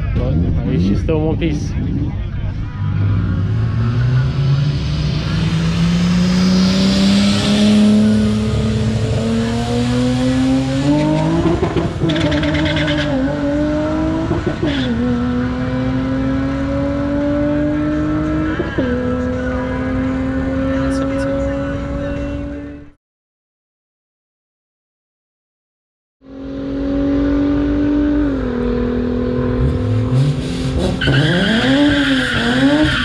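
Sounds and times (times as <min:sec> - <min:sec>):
car engine accelerating hard: 0:00.0 - 0:22.9, 0:26.2 - 0:33.0.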